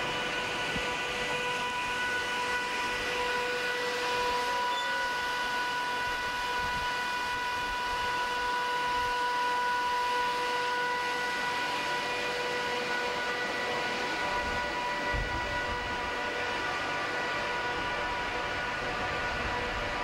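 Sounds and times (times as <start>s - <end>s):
constant high whine: 0.0s - 20.0s
electric locomotive roar: 0.0s - 20.0s.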